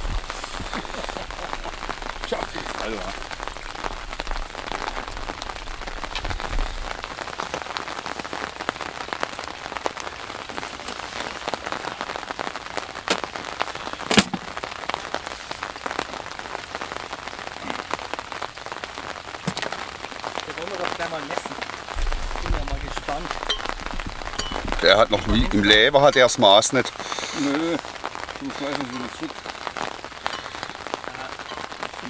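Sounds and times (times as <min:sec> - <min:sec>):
steady rain pattering: 0:00.0 - 0:32.0.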